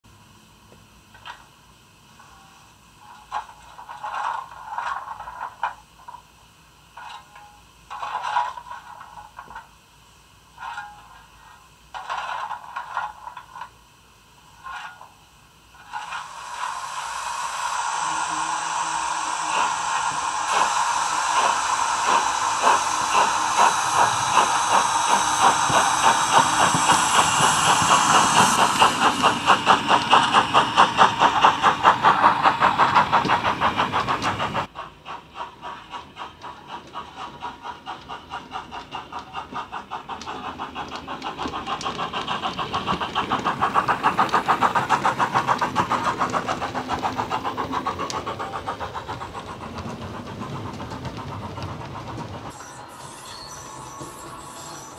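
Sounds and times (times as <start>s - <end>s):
steam hiss: 0.1s - 54.9s
steam locomotive exhaust chuffs: 0.1s - 54.9s.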